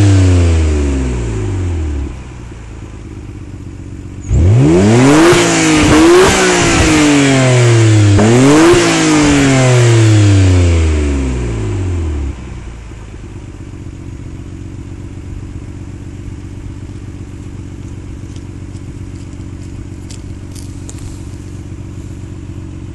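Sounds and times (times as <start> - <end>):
car engine revving and idling: 0.0 - 22.9.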